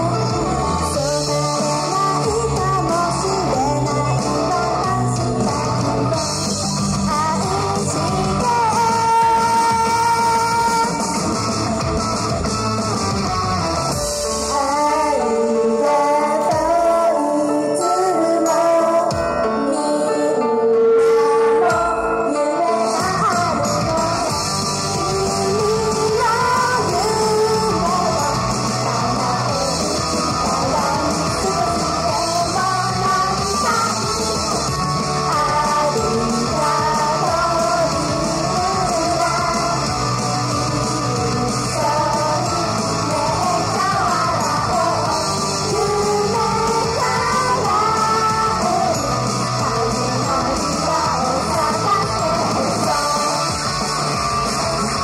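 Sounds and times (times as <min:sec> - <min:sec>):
group singing live: 0:00.0 - 0:11.4, 0:14.5 - 0:19.3, 0:20.0 - 0:55.0
uptempo pop-rock music: 0:00.0 - 0:55.0.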